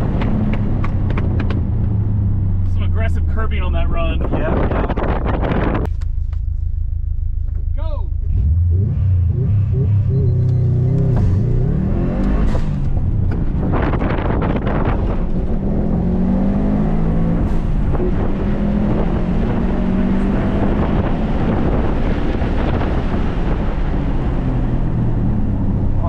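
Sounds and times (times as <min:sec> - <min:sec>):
car engine driven hard: 0:00.0 - 0:26.0
tyre and road noise: 0:00.0 - 0:26.0.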